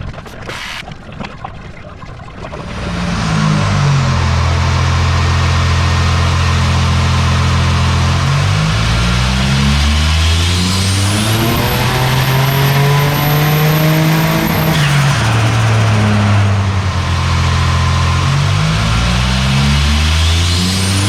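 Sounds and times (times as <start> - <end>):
car engine revving: 2.6 - 21.0.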